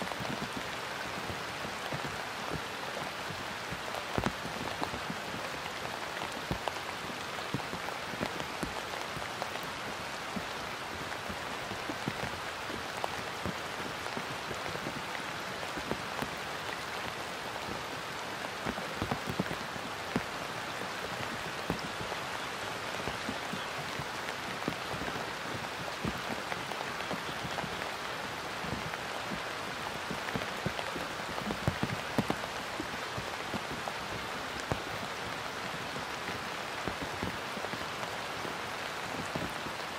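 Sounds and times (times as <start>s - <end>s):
rain on water and grass: 0.0s - 39.9s.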